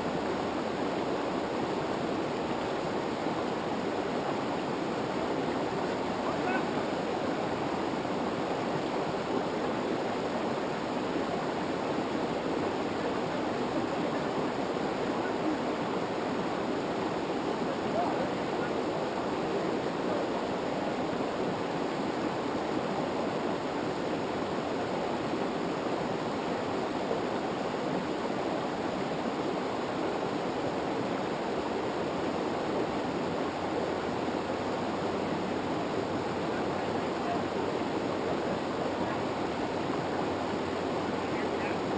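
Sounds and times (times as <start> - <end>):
river water rushing over rocks: 0.0 - 41.9.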